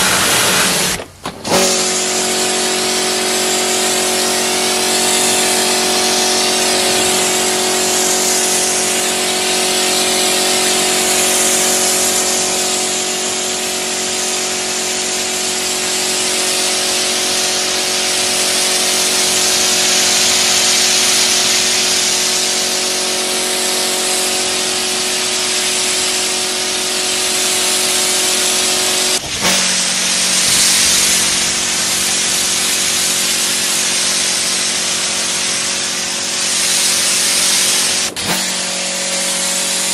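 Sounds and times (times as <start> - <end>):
foam spray hissing: 0.0 - 39.9
pressure washer humming: 0.0 - 39.9.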